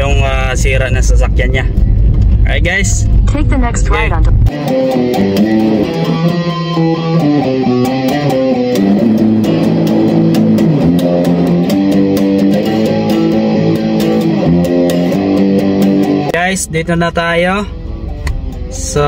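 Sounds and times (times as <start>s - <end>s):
electric guitar music with beat: 3.0s - 19.0s.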